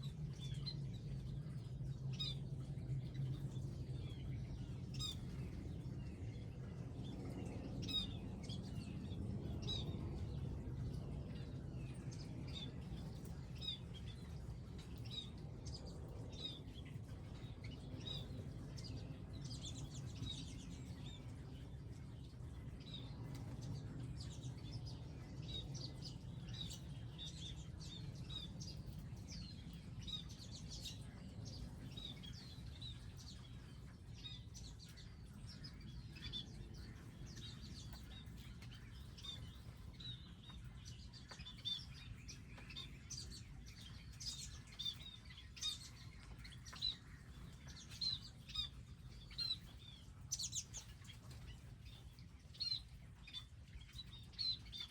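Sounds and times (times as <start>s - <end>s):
low background rumble: 0.0s - 54.9s
songbirds chirping: 0.0s - 54.9s.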